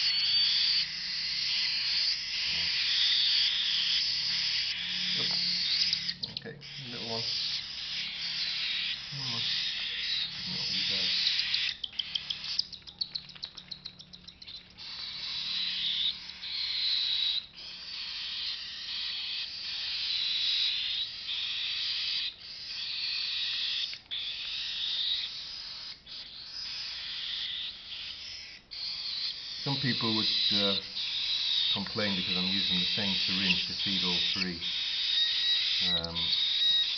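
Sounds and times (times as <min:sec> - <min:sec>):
cockatiel chicks raspy begging calls: 0:00.0 - 0:36.9.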